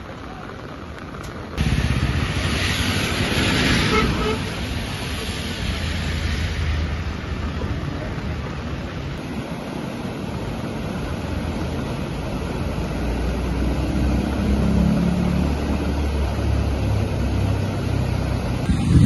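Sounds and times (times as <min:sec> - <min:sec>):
floodwater rushing: 0:00.0 - 0:19.0
vehicle engine humming: 0:00.0 - 0:19.0.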